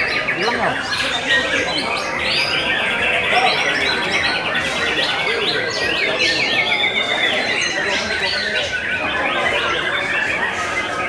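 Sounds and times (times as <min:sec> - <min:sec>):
birds singing trills and whistles: 0:00.0 - 0:11.0.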